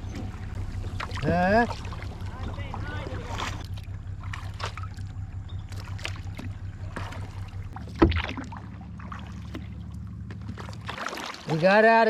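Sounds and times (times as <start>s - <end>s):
low rumble: 0.0s - 11.5s
paddle splashing in water: 0.0s - 12.0s.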